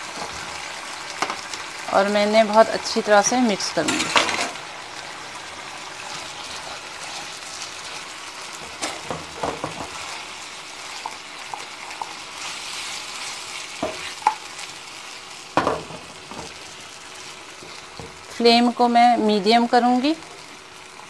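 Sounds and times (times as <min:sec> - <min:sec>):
chicken sizzling in a frying pan: 0:00.0 - 0:21.0.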